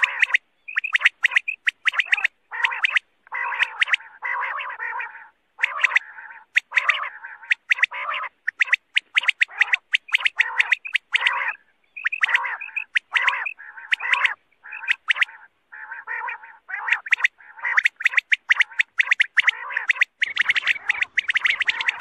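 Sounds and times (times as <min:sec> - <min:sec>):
quail calling: 0:00.0 - 0:22.0.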